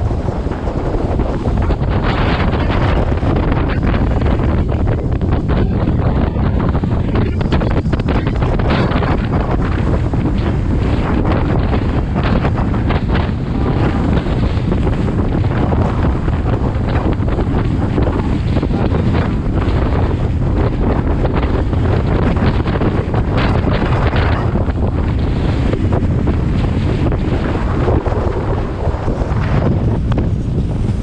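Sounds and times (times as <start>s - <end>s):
waves slapping boat hull: 0.0s - 31.0s
wind blasting microphone: 0.0s - 31.0s.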